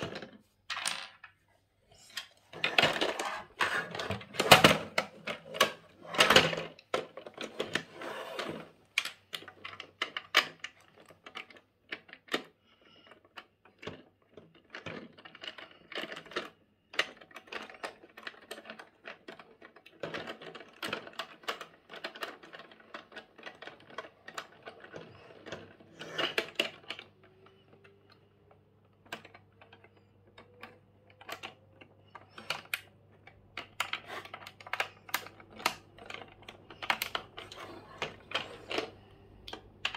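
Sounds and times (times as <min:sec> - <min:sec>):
plastic toy parts clicking: 0:02.0 - 0:39.9.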